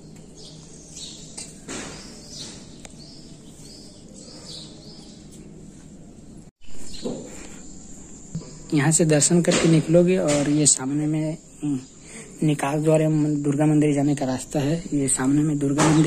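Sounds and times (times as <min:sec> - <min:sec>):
background hum: 0:00.0 - 0:16.0
small birds chirping: 0:00.0 - 0:16.0.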